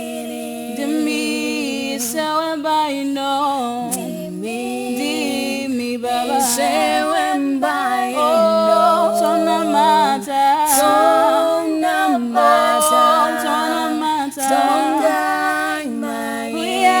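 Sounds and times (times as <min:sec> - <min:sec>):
a cappella group singing harmony: 0:00.0 - 0:17.0.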